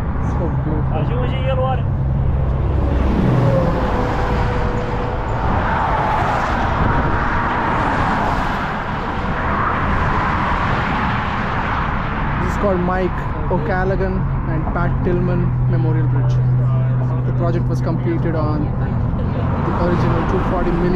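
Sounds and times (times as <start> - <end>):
road traffic roar: 0.0 - 20.9.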